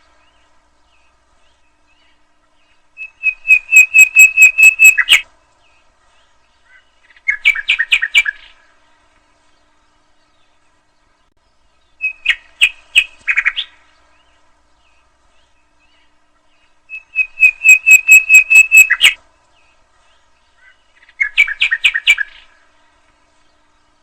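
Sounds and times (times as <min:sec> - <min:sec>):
nightingale singing: 0:00.0 - 0:24.0.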